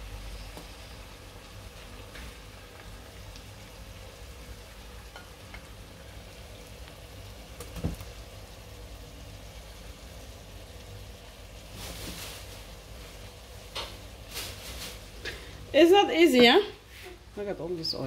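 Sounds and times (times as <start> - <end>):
vegetables sizzling in pan: 0.0 - 18.0.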